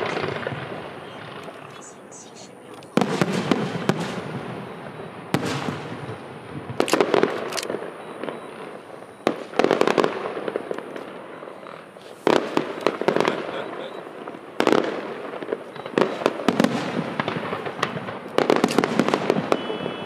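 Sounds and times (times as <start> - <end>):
fireworks banging with echoes: 0.0 - 20.0.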